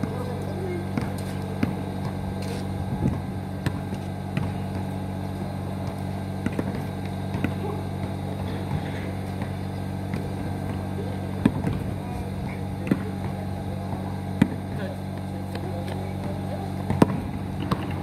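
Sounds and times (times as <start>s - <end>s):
basketball bouncing on asphalt: 0.0s - 18.0s
low machine hum: 0.0s - 18.0s.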